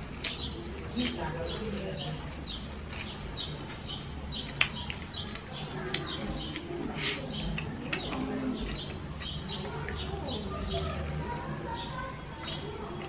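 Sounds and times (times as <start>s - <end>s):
small bird chirping: 0.2s - 13.0s.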